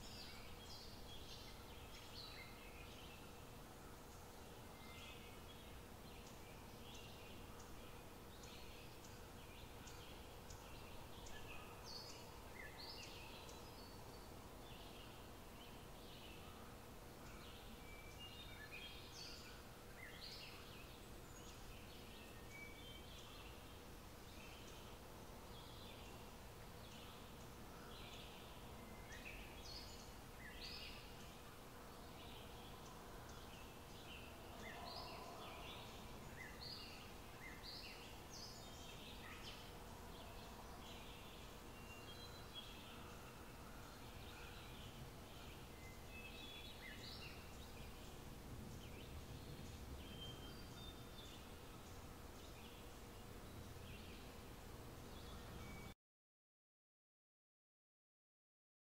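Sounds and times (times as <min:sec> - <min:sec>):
room hiss and hum: 0:00.0 - 0:55.9.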